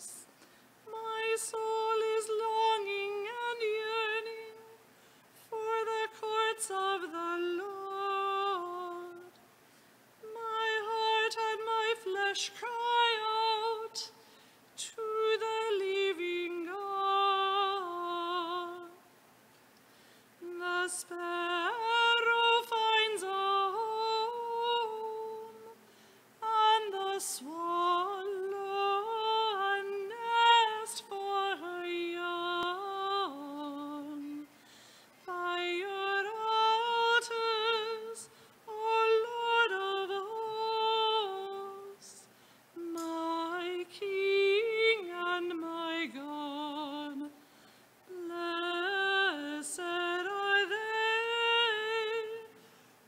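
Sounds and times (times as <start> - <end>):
woman singing a hymn: 0.0 - 9.5, 10.2 - 19.2, 20.4 - 52.8.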